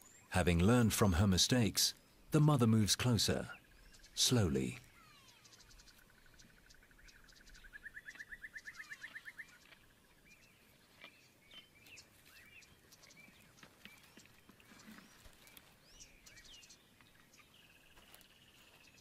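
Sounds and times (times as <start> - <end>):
bird chirps: 1.9 - 19.0
faint bird calls: 3.3 - 19.0.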